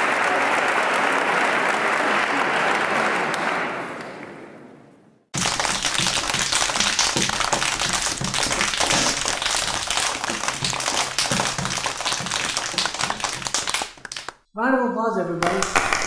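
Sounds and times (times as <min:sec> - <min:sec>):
crowd applause: 0:00.0 - 0:04.2, 0:05.4 - 0:14.4, 0:15.4 - 0:16.0.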